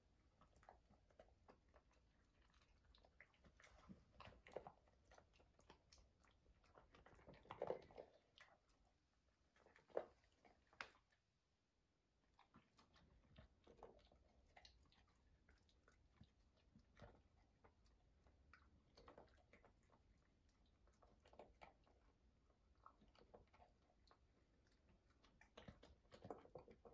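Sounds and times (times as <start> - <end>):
dog crunching kibble: 0.3 - 8.9, 12.4 - 26.9.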